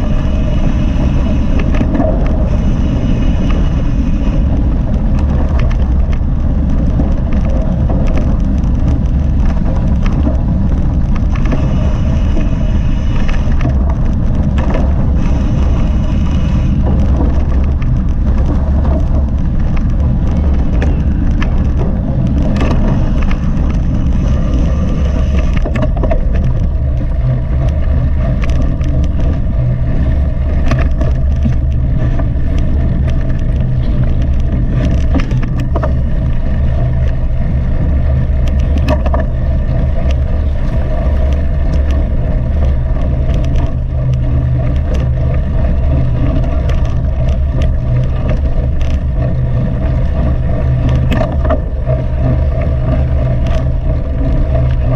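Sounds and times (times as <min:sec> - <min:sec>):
wind buffeting microphone: 0:00.0 - 0:54.9
bike rattles and knocks: 0:01.4 - 0:02.7, 0:04.4 - 0:54.9.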